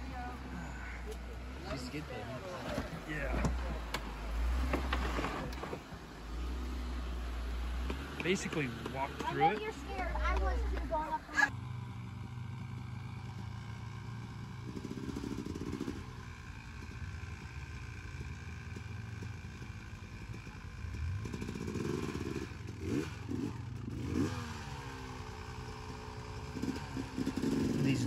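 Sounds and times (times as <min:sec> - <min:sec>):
vehicle engine revving: 0:00.0 - 0:16.4, 0:18.8 - 0:28.0.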